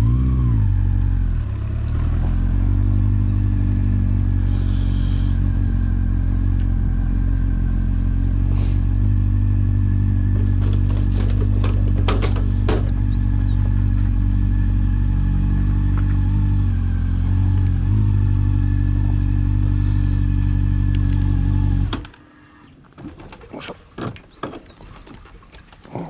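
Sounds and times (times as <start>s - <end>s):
motorcycle engine idling: 0.0s - 22.7s.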